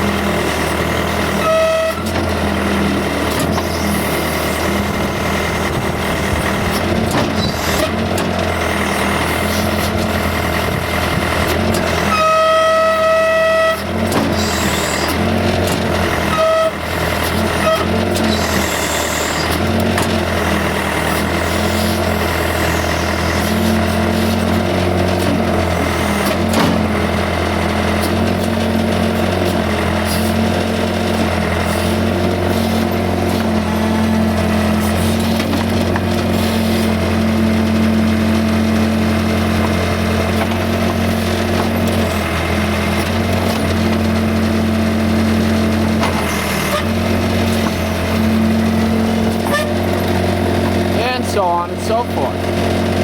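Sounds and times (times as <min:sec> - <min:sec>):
backhoe diesel engine running: 0:00.0 - 0:53.0.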